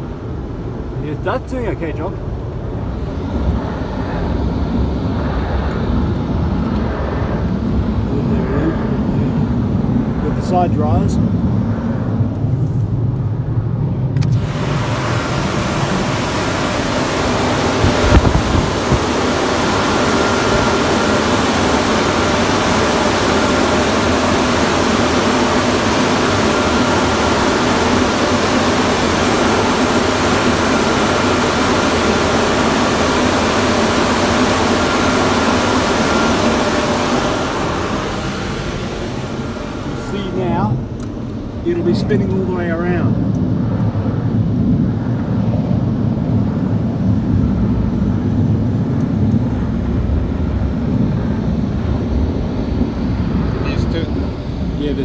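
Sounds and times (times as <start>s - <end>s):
car wash air blowers rushing: 0.0s - 55.0s.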